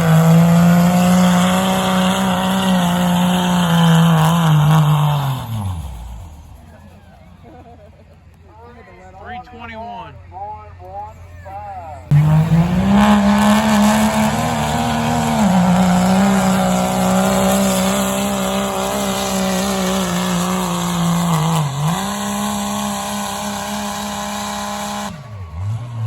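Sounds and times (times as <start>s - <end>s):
tractor engine running at high revs: 0.0s - 7.8s, 12.1s - 26.0s.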